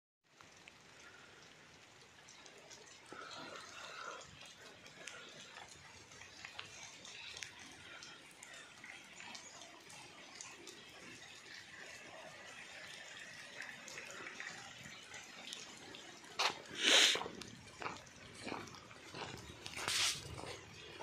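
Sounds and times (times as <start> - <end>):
light rain: 0.2 - 21.0
small drips and ticks: 0.2 - 21.0.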